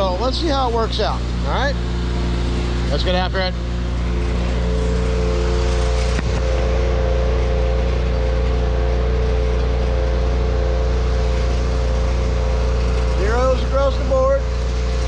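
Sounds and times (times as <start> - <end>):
pressure washer engine and pump: 0.0 - 15.0.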